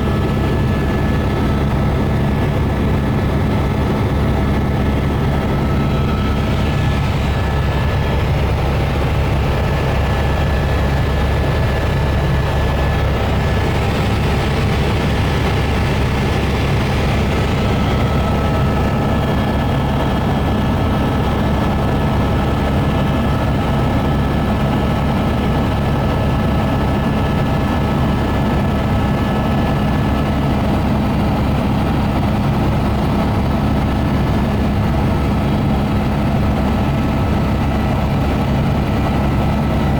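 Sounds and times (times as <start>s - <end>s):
helicopter rotor beat: 0.0s - 39.9s
turbine whine: 0.0s - 39.9s.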